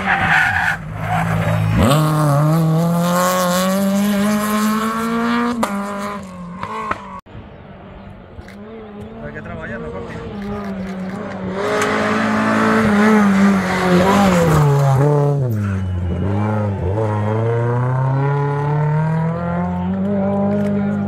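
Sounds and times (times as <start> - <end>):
rally car engine passing: 0.0 - 8.0, 8.6 - 21.0.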